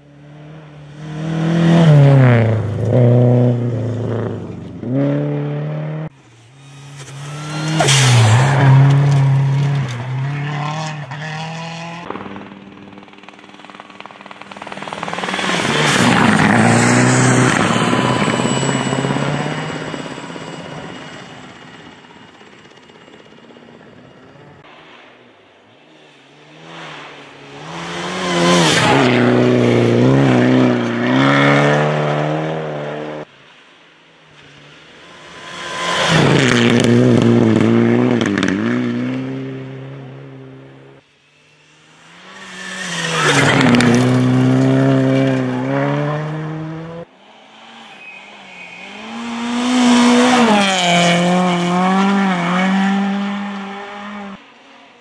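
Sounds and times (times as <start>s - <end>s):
rally car engines revving: 0.0s - 13.1s, 14.4s - 21.0s, 25.7s - 33.3s, 34.3s - 55.0s.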